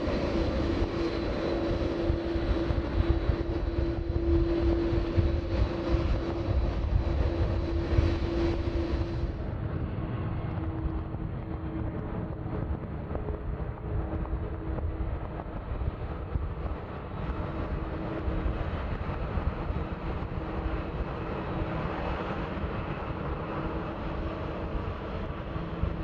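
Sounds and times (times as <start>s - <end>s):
jet airliners taxiing: 0.0s - 26.0s.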